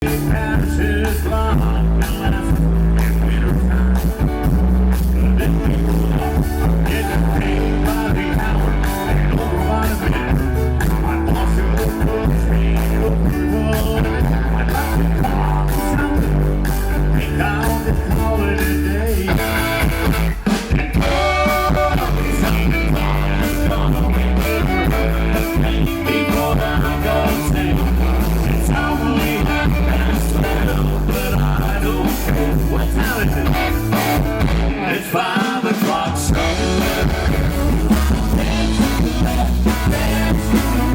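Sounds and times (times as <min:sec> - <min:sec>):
rock blues band music: 0:00.0 - 0:40.9.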